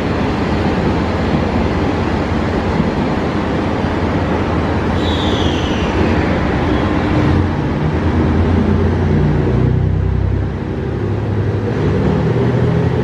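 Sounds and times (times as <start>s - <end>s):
diesel train engines running: 0.0s - 13.0s.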